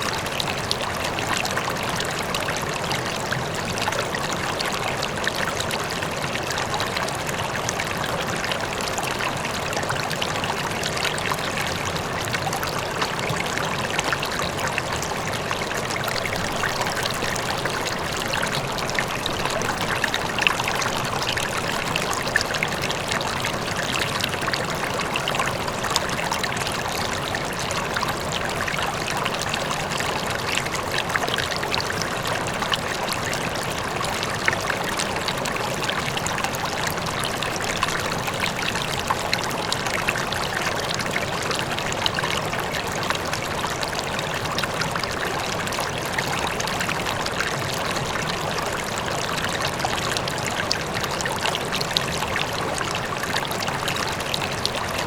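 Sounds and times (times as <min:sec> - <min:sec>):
faint waterfall: 0:00.0 - 0:55.0
river flowing: 0:00.0 - 0:55.0
small splashes and trickles: 0:00.0 - 0:55.0.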